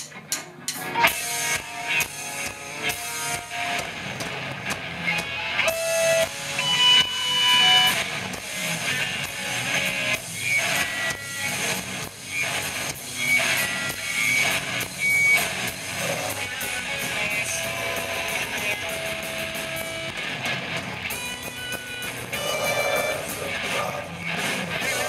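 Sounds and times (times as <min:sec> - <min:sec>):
metal band playing: 0:00.0 - 0:25.0.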